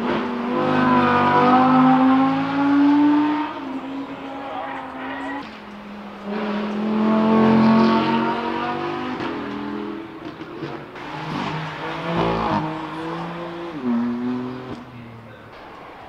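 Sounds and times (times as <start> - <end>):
car engine revving hard: 0.0 - 14.9.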